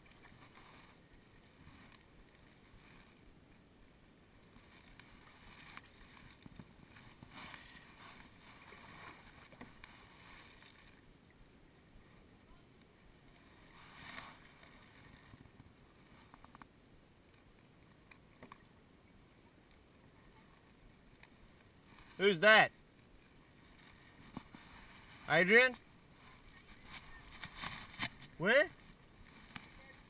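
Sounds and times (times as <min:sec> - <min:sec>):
paddle swishing through water: 0:00.0 - 0:30.0.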